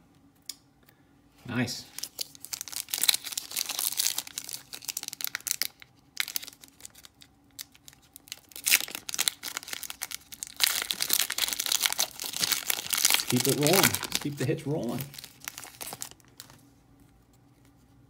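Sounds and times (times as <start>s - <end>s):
plastic wrapper tearing: 1.9s - 16.6s.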